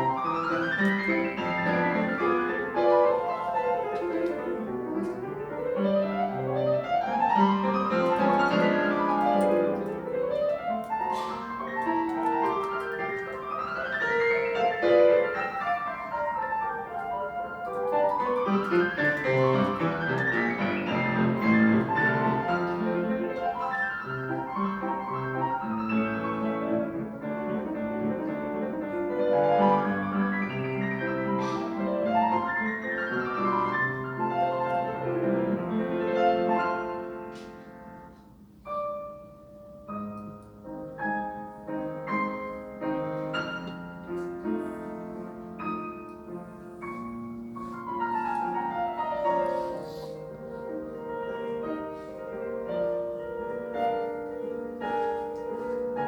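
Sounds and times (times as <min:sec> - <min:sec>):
solo classical piano: 0:00.0 - 0:56.0.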